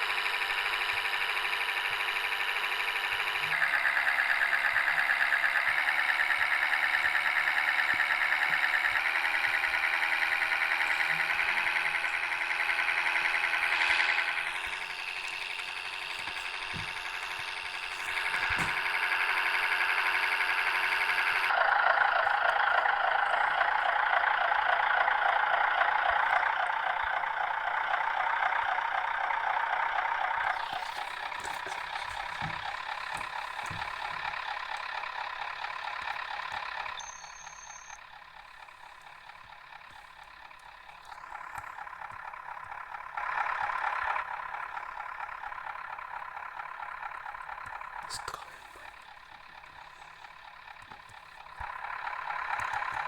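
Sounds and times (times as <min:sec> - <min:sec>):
bus engine noise from inside: 0:00.0 - 0:53.0.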